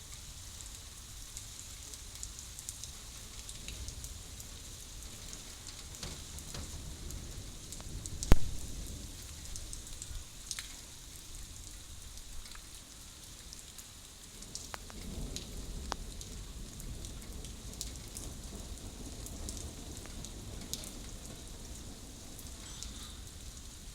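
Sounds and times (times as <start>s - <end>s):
steady rain: 0.0s - 23.9s
raindrops ticking: 0.1s - 23.9s.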